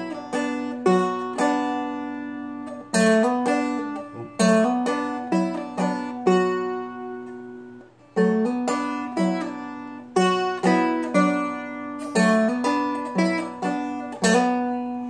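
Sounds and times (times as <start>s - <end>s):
dulcimer picked blues melody: 0.0s - 15.0s.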